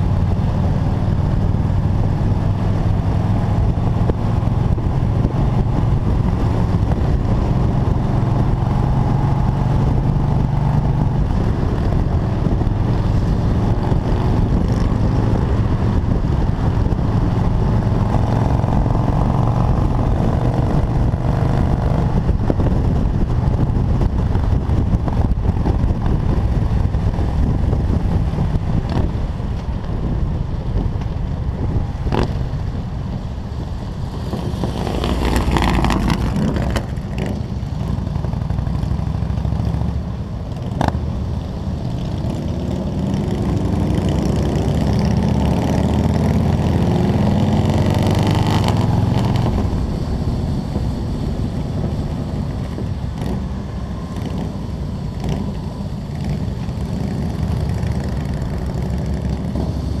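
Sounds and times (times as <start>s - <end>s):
motorcycle engines cruising: 0.0s - 60.0s
wind rushing over microphone: 0.0s - 60.0s.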